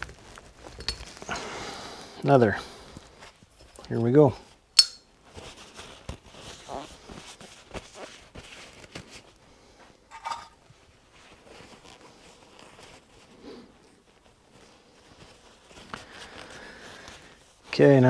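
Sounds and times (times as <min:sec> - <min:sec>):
paper towel rustling: 0:00.0 - 0:04.6, 0:05.2 - 0:10.0, 0:10.6 - 0:18.0.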